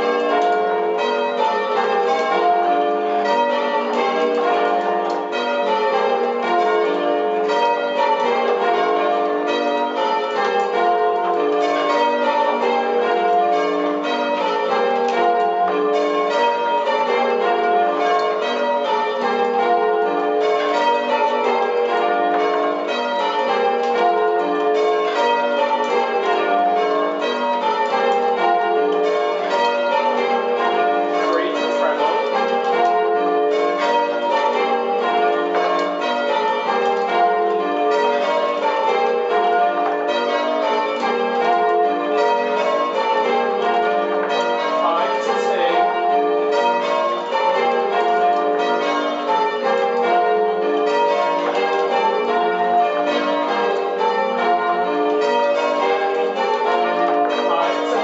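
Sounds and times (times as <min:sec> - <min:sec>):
church bells ringing in runs: 0:00.0 - 0:58.0.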